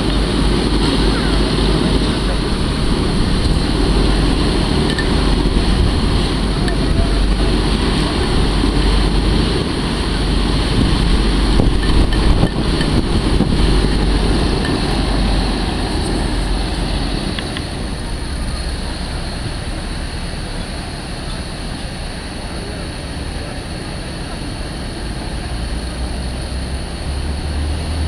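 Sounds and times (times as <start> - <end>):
hovercraft engine roar: 0.0 - 28.0.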